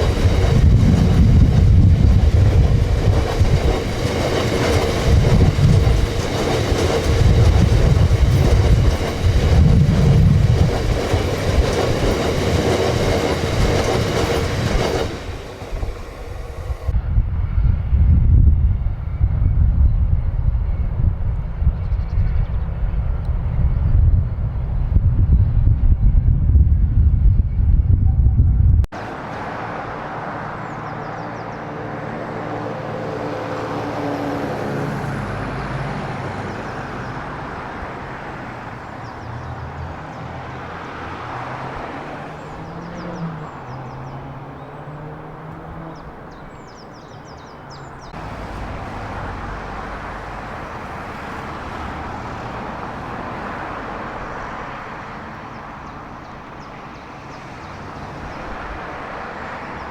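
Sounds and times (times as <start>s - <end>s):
vehicle engines rumbling: 0.0s - 17.5s, 28.3s - 59.9s.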